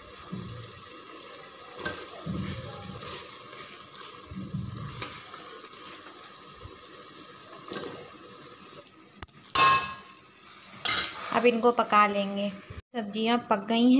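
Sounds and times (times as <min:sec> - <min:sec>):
oil sizzling: 0:00.0 - 0:12.8.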